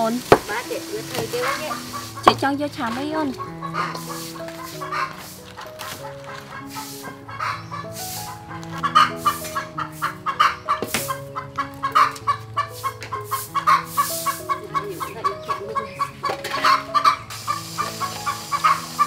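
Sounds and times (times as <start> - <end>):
background music held notes: 0.0 - 19.0
chickens clucking: 0.3 - 19.0.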